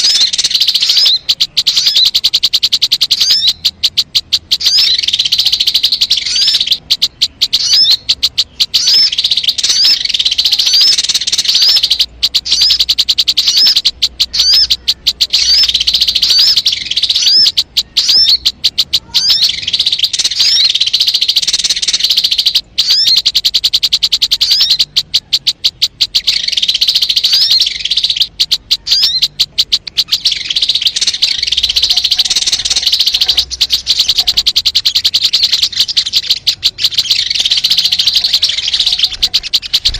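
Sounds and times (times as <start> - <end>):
bird trilling and chirping: 0.0 - 39.9.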